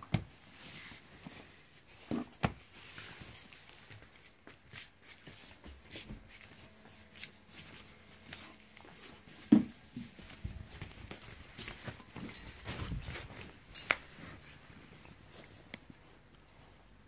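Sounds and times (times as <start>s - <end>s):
dogs rustling on bed: 0.2s - 16.8s.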